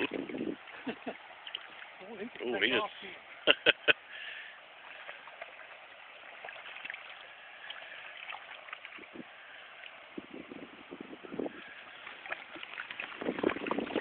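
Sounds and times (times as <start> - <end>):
river water trickling over gravel: 0.0 - 14.0.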